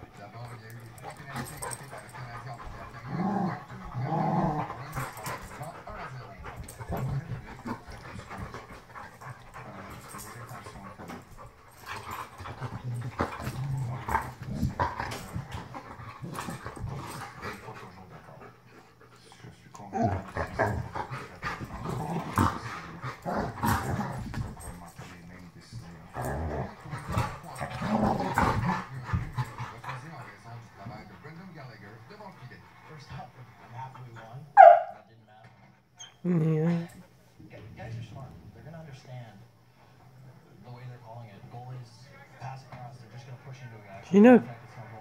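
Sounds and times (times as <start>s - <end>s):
dogs growling: 0.0s - 38.7s.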